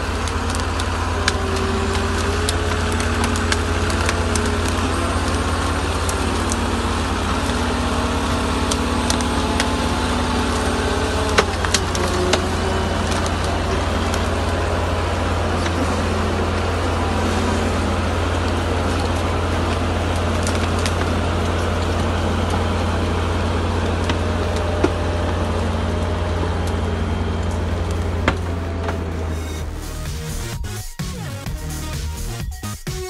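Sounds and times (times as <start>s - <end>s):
branches snapping: 0.0s - 29.8s
wavering drive whine: 0.0s - 32.8s
diesel engine rumbling under load: 0.0s - 32.9s.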